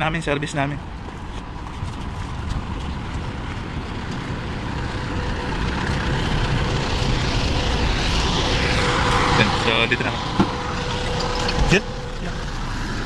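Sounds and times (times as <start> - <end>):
wind rumbling on microphone: 0.0 - 13.0
vehicle engine running: 1.1 - 13.0.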